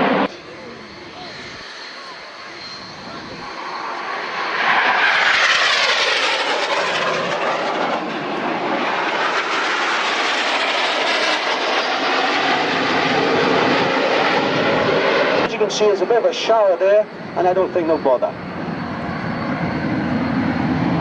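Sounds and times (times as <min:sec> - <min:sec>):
jet aircraft flying past: 0:00.0 - 0:21.0.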